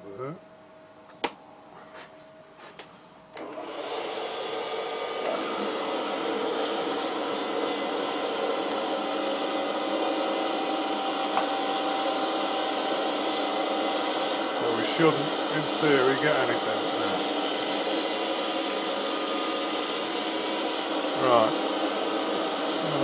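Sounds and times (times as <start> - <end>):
grinder motor whine: 3.4 - 23.0.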